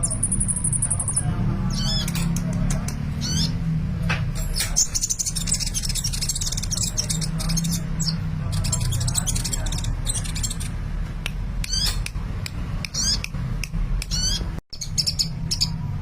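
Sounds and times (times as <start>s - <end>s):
bird twittering and trilling: 0.0s - 3.7s, 4.3s - 10.9s, 11.6s - 12.2s, 12.8s - 13.4s, 14.0s - 16.0s.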